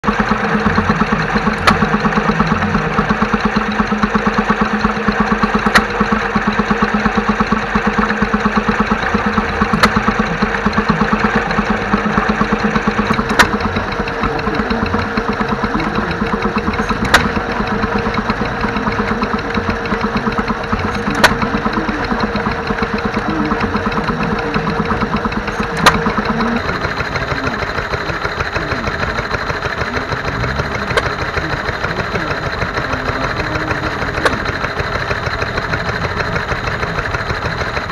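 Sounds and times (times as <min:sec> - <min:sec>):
engine bang: 0:00.0 - 0:37.9
stationary engine chugging: 0:00.0 - 0:37.9.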